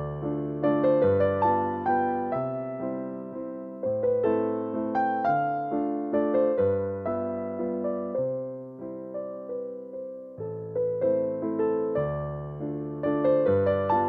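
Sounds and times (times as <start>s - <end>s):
gentle piano piece: 0.0s - 14.0s.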